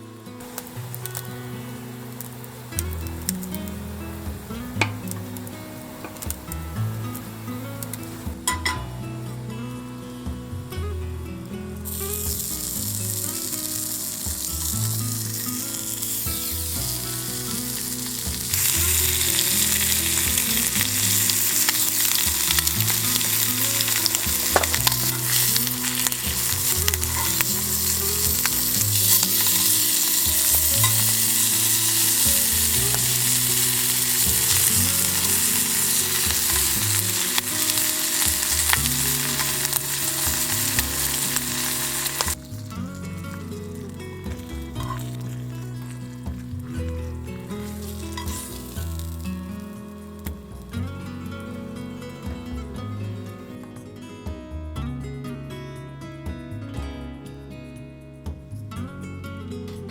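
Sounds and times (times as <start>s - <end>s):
food sizzling in a pan: 0.0s - 10.8s, 11.4s - 51.7s
soft background music: 0.0s - 59.9s.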